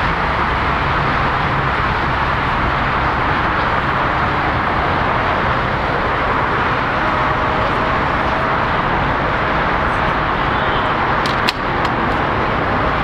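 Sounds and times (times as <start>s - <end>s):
aircraft rumble and hiss: 0.0s - 13.0s.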